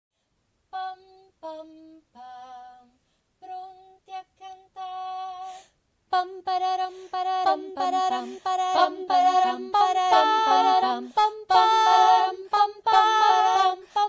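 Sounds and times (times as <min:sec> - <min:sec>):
woman singing unaccompanied: 0:00.7 - 0:14.0.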